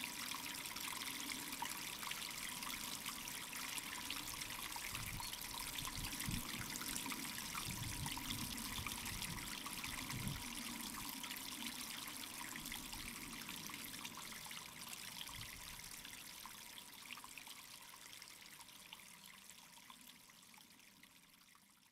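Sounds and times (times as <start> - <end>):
water trickling: 0.0 - 21.9.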